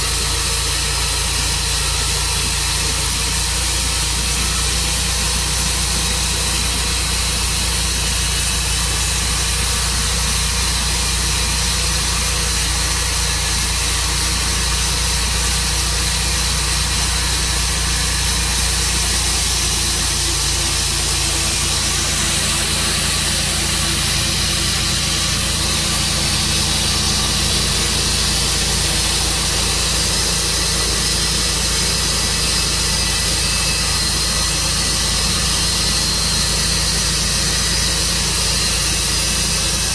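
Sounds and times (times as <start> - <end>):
saw hissing through log: 0.0 - 39.9
sawmill engine running: 0.0 - 39.9.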